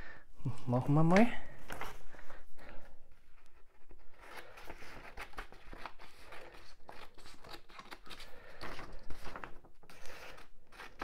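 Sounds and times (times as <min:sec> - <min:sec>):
paper rustling and crinkling: 0:01.1 - 0:02.4, 0:03.1 - 0:11.0.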